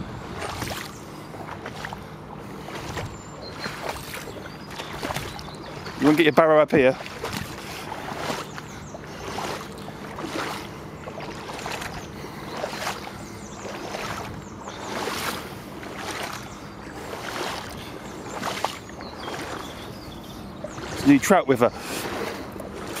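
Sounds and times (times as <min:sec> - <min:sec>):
boots splashing through water: 0:00.3 - 0:23.0.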